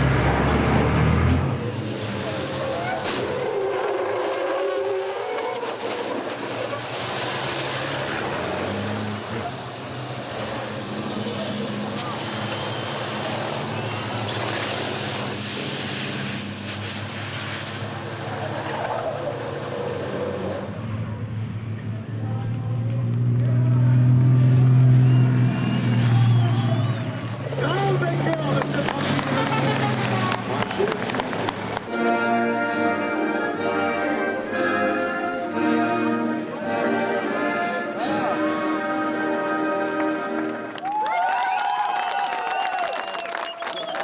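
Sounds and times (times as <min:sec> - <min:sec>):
truck engine humming: 0:00.0 - 0:40.9.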